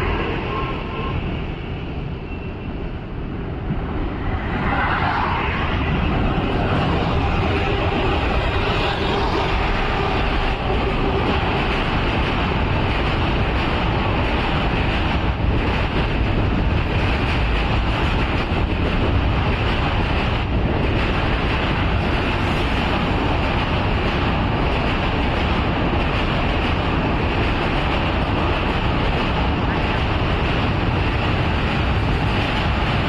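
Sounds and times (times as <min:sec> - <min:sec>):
train rumbling over bridge: 0:00.0 - 0:33.0.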